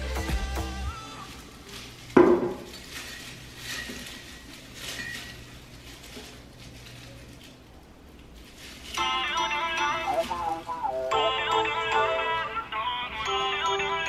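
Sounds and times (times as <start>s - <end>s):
artificial flower stems rustling: 0.0s - 12.8s.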